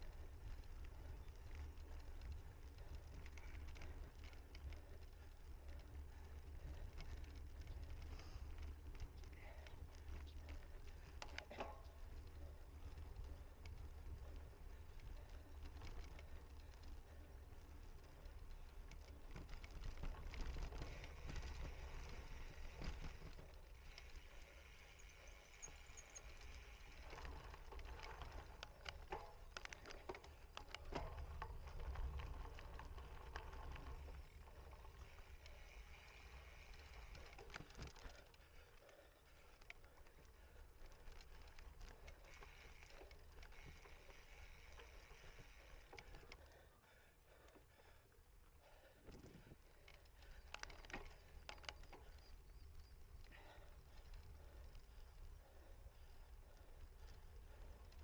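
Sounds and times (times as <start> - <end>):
bicycle rattling and clicking: 0.0 - 58.0.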